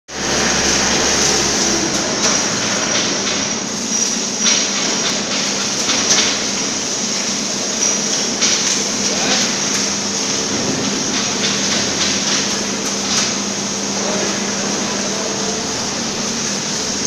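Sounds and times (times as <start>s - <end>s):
workshop machinery hissing: 0.1s - 17.0s.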